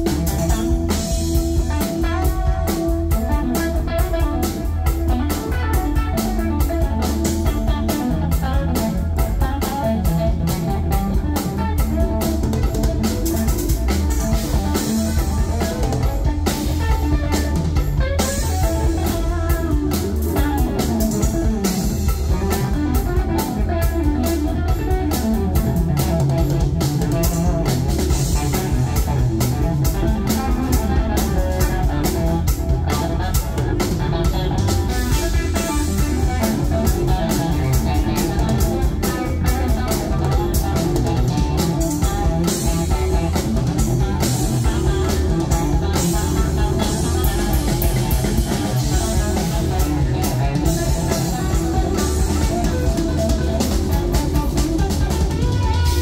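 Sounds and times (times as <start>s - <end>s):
bass guitar: 0.0s - 56.0s
drum kit and cymbals: 0.0s - 56.0s
electric guitar: 0.0s - 56.0s.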